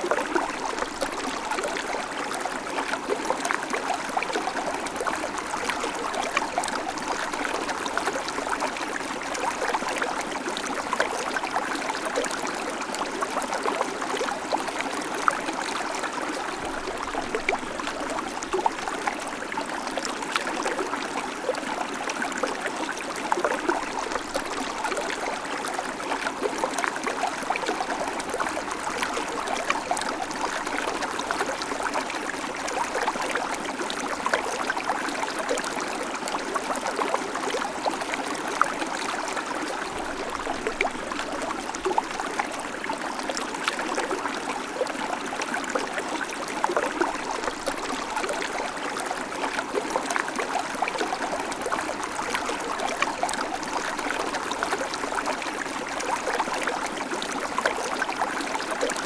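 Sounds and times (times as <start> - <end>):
creek water running over stones: 0.0 - 59.0.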